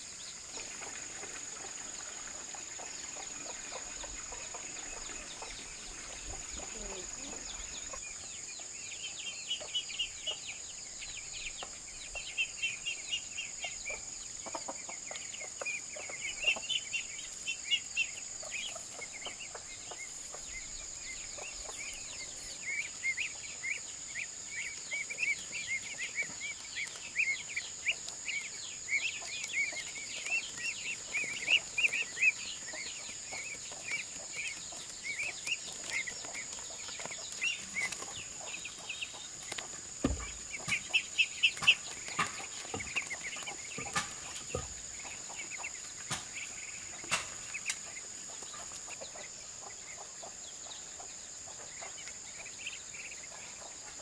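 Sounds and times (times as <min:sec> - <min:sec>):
goslings peeping: 0:00.2 - 0:54.0.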